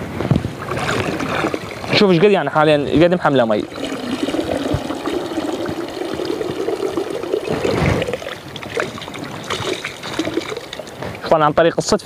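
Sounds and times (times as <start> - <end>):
water dribbling and splashing: 0.4 - 11.5.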